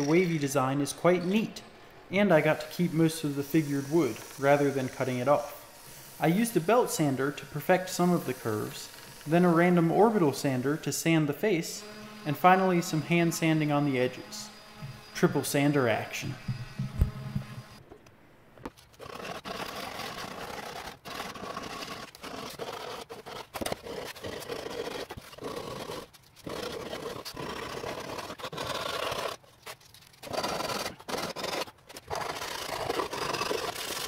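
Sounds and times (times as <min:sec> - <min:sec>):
sandpaper scraping wood: 0:02.2 - 0:17.8, 0:18.7 - 0:34.0.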